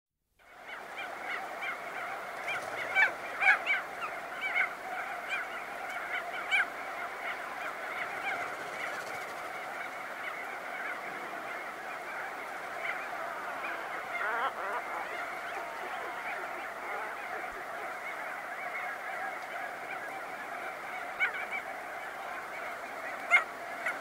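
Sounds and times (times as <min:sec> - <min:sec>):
chorus of seabird calls: 0:00.5 - 0:24.0.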